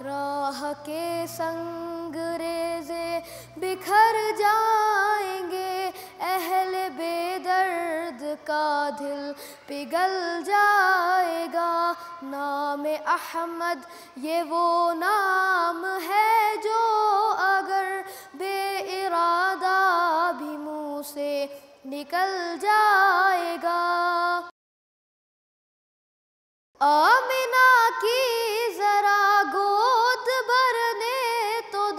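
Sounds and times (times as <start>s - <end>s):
boy singing: 0.0s - 24.5s, 26.8s - 31.9s.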